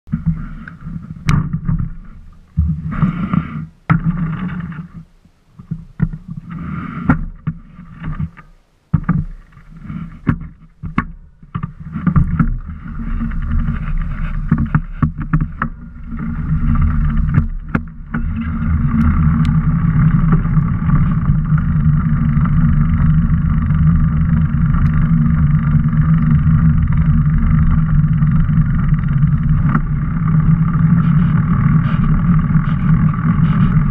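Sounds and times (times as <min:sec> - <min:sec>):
bicycle tyre hum: 0:00.1 - 0:33.9.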